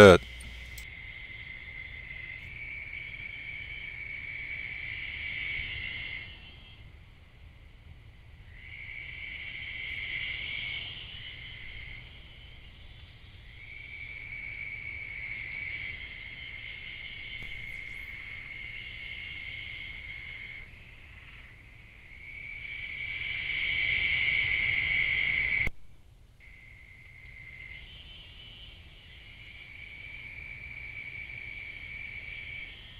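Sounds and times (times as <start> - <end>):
night insects trilling: 0.0 - 25.7, 26.4 - 32.9.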